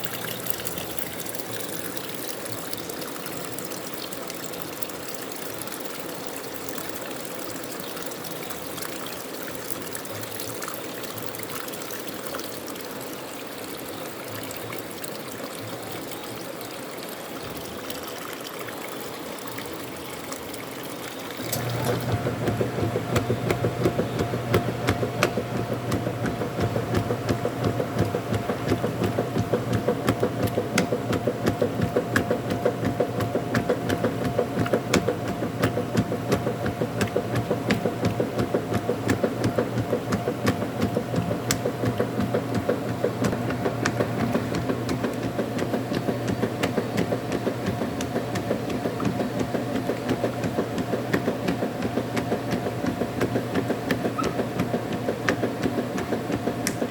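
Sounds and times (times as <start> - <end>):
washing machine running: 0.0 - 56.9.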